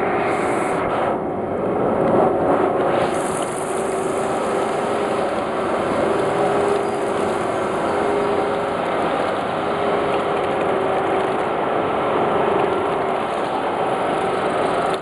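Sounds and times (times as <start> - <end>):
motor and pump hum: 0.0 - 15.0
churning water rushing: 3.0 - 15.0.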